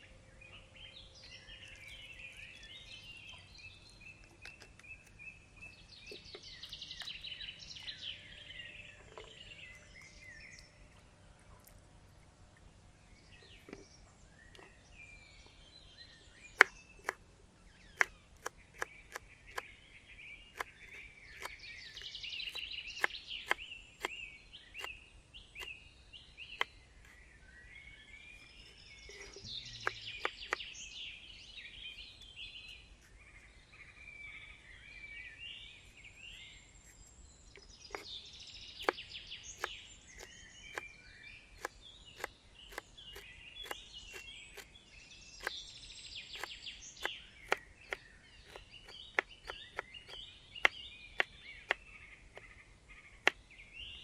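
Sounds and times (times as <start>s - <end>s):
birds chattering: 0.0s - 54.0s.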